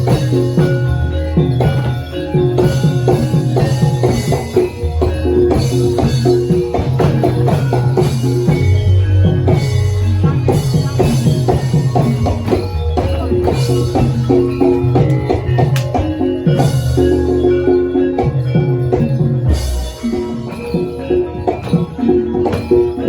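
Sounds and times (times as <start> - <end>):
ringing tuned metal percussion: 0.0 - 23.0.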